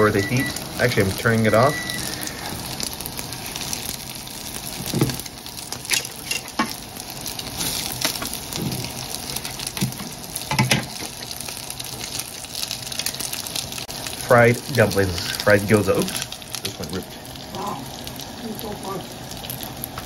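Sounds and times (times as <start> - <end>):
dumplings sizzling in oil: 0.0 - 20.0.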